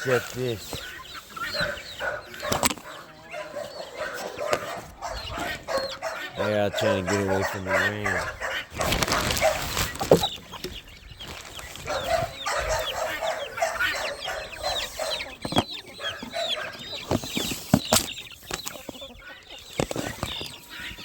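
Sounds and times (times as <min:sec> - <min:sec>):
chickens clucking: 0:00.0 - 0:21.0
chicks peeping: 0:00.0 - 0:21.0.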